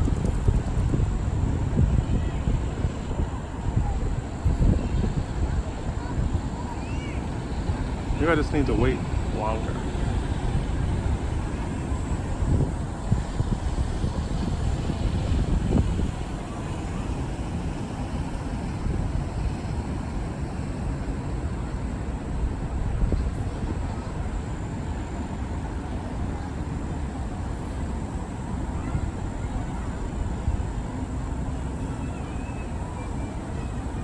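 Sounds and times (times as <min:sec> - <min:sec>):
city background rumble: 0:00.0 - 0:34.0.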